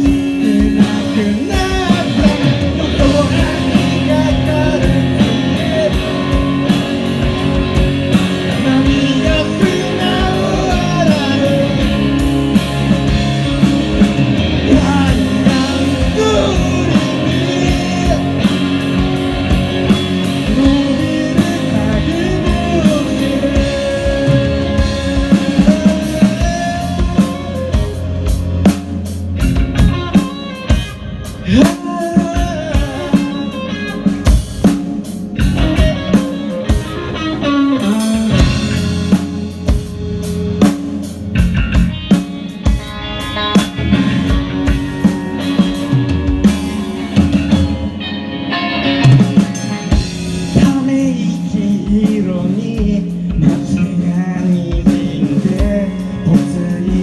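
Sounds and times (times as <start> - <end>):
bass guitar: 0.0 - 57.0
drum kit: 0.0 - 57.0
lead guitar: 0.0 - 57.0.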